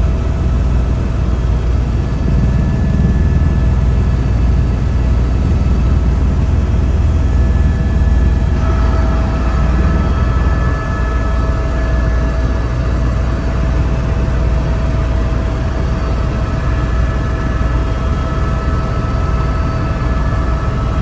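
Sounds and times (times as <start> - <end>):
helicopter engine and rotor rumble: 0.0 - 21.0
high whine: 0.0 - 21.0.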